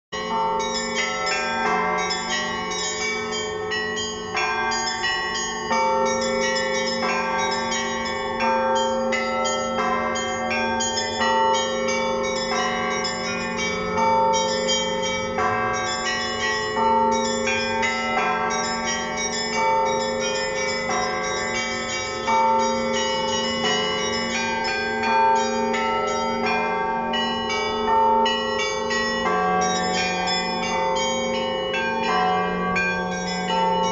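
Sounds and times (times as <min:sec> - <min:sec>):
hum of large bells: 0:00.2 - 0:33.9
small church bells chiming: 0:00.2 - 0:33.9.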